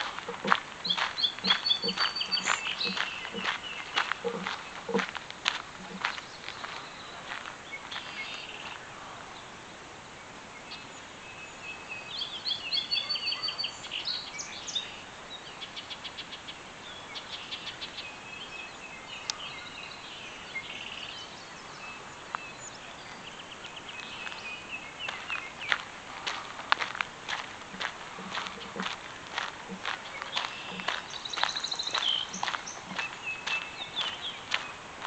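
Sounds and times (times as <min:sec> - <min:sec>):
faint outdoor hiss: 0:00.0 - 0:35.0
songbirds singing: 0:00.0 - 0:35.0.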